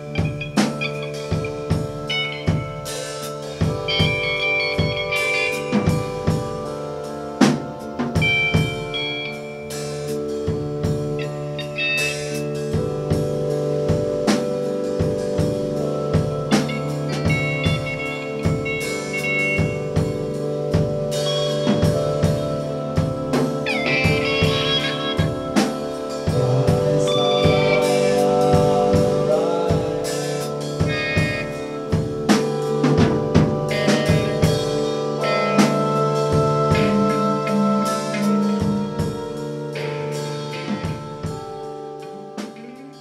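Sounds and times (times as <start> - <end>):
drum-kit beat: 0.0 - 43.0
sustained held notes: 0.0 - 43.0.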